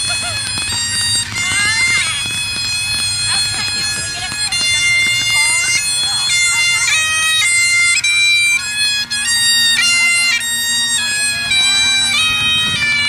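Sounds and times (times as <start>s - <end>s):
bagpipe drones humming: 0.0s - 13.0s
bagpipe melody: 0.0s - 13.0s.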